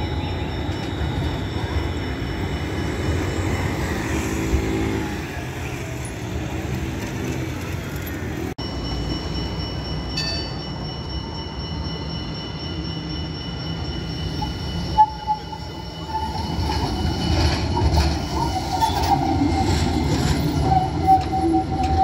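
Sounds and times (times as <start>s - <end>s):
high tram squealing: 0.0s - 22.0s
tram rumbling on rails: 0.0s - 22.0s.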